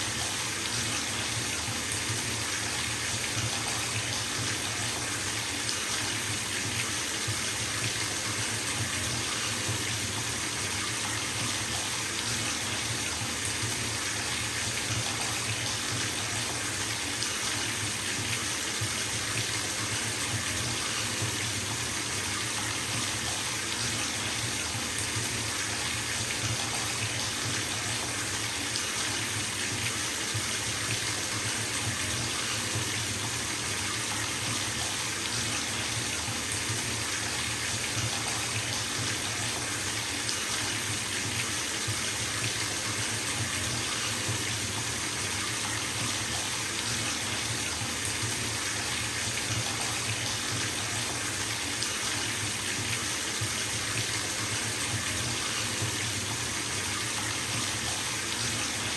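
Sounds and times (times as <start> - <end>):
bathtub tap running: 0.1 - 58.9.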